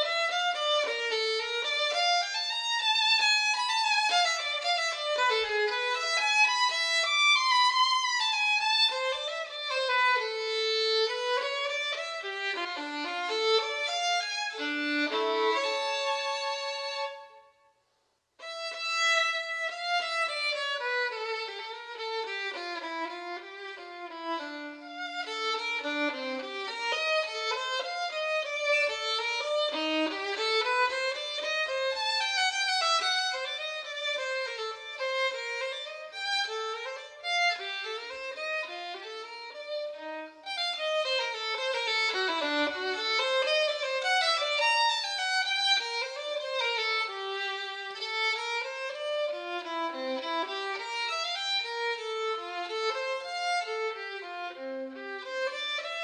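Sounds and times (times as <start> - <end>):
violin melody: 0.0 - 17.8, 18.4 - 56.0.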